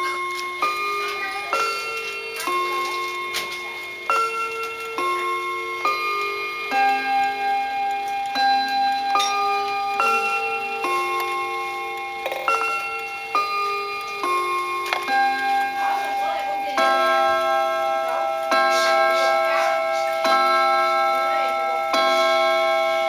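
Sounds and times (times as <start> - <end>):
clock mechanism clicks: 0.0 - 23.0
cuckoo clock melody: 0.0 - 23.0.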